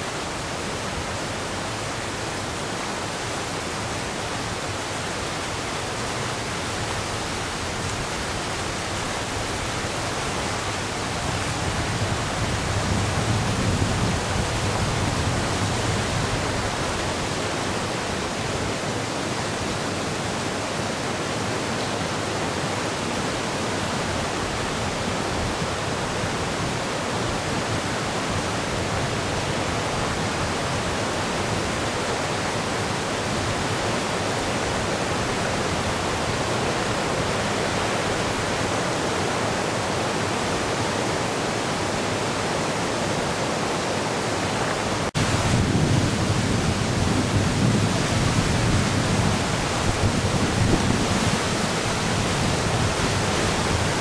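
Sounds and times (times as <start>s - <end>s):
river in flood rushing: 0.0s - 54.0s.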